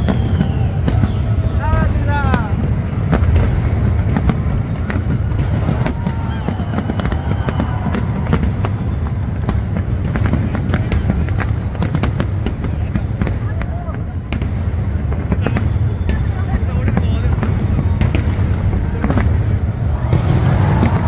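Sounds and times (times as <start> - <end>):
firework cracks and pops: 0.0 - 21.0
firework shells bursting rumble: 0.0 - 21.0.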